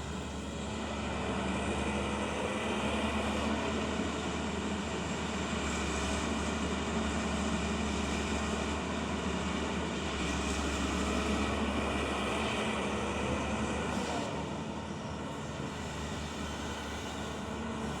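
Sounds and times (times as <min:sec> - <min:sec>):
diesel engine low drone: 0:00.0 - 0:18.0.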